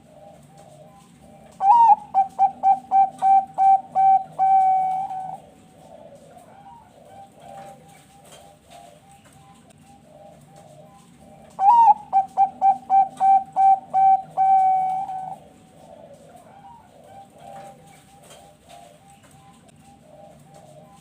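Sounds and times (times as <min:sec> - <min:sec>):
dove singing staccato coos: 0:00.0 - 0:21.0
doves cooing softly: 0:00.0 - 0:21.0.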